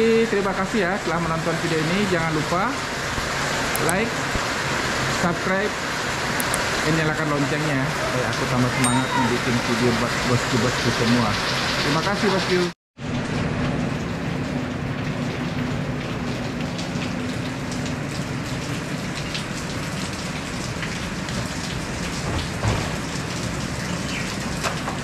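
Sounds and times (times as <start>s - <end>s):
heavy rain falling: 0.2s - 25.0s.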